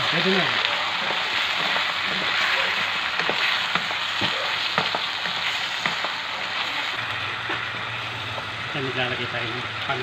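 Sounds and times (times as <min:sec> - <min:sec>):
shrimp sizzling in a pan: 0:00.0 - 0:10.0.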